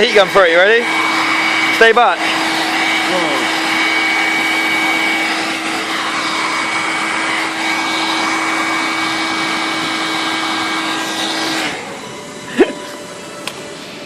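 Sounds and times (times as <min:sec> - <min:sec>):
heat gun blowing hot air: 0:00.0 - 0:12.7.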